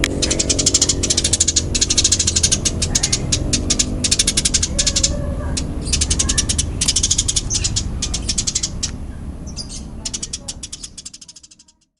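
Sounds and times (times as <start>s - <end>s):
low background rumble: 0.0s - 11.6s
sparrow chirping sharply: 0.0s - 11.9s.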